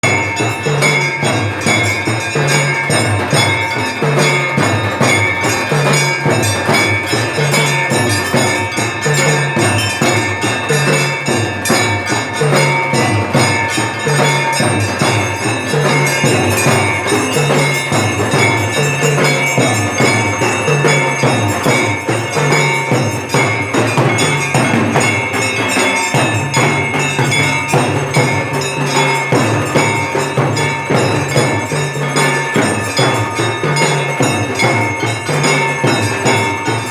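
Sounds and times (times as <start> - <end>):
percussion with low beat: 0.0 - 36.9
temple bells ringing: 0.0 - 36.9.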